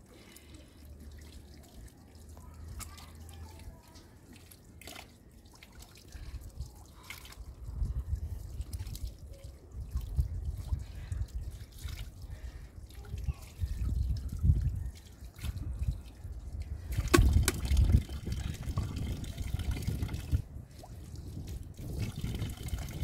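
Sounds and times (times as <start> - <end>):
water dripping and trickling: 0.0 - 23.0.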